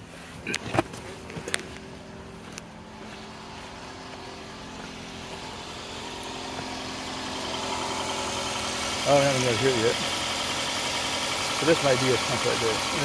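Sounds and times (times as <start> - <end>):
pump motor humming: 1.9 - 13.0.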